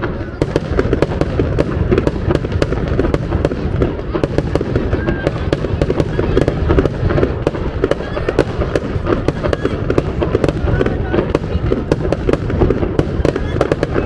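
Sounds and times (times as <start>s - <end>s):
fireworks cracking and popping: 0.0s - 14.0s
low rumble of bursting shells: 0.0s - 14.0s.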